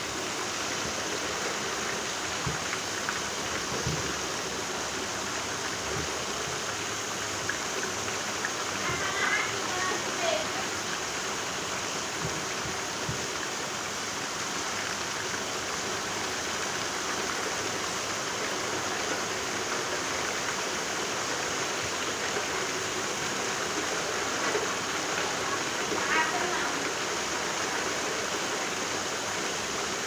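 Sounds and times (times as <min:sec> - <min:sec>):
heavy rain hiss: 0:00.0 - 0:30.0.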